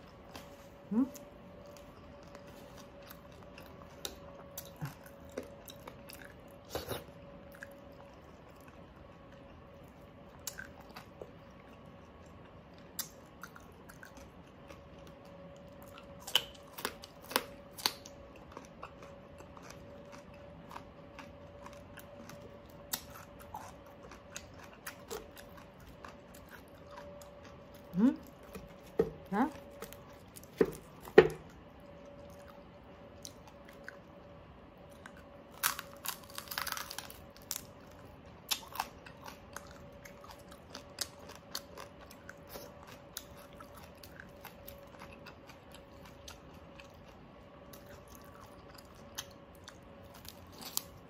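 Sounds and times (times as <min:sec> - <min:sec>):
faint steady hum: 0:00.0 - 0:51.0
person chewing crunchy food: 0:00.0 - 0:51.0.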